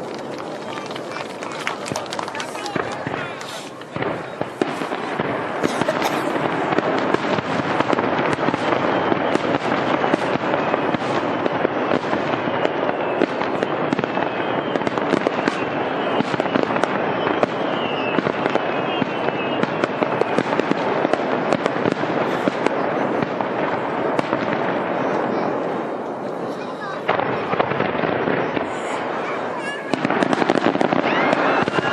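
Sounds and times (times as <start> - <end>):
fireworks crackling and popping: 0.0 - 31.9
falling firework whistle: 2.4 - 23.5, 27.1 - 31.9.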